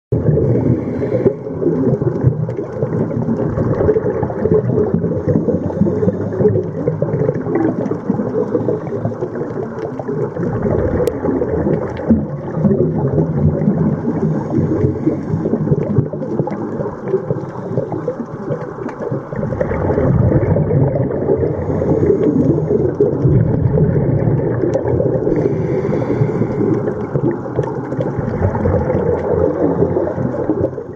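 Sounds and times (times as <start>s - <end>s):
underwater water rumble and gurgle: 0.1s - 30.9s.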